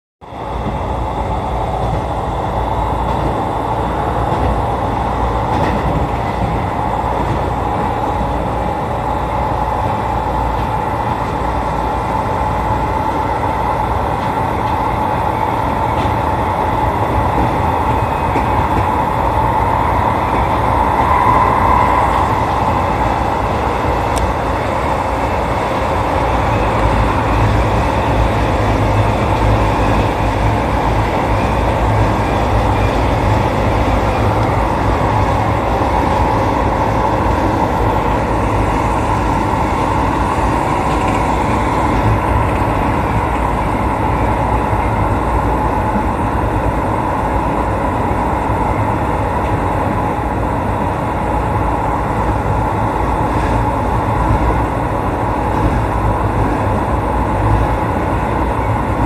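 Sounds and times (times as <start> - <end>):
train wheels rumbling on rail: 0.2 - 59.0
train whine: 0.2 - 59.0.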